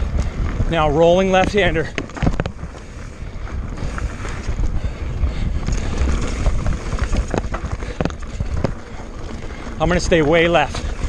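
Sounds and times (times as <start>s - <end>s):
bike tyres rolling over dirt: 0.0s - 11.0s
wind rushing over microphone: 0.0s - 11.0s.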